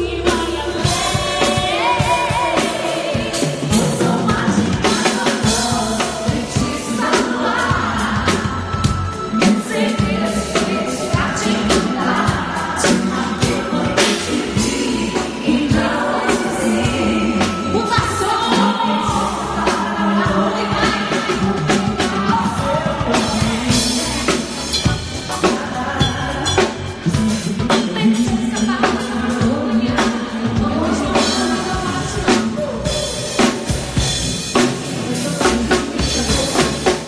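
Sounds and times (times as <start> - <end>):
woman singing into a microphone: 0.0 - 33.8, 34.8 - 37.0
amplified pop music with drums: 0.0 - 37.0.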